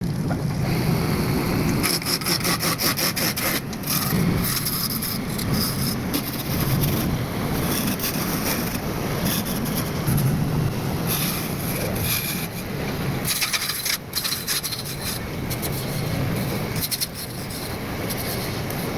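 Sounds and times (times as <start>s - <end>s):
chisel scraping spinning wood: 1.8s - 10.4s, 11.1s - 18.9s.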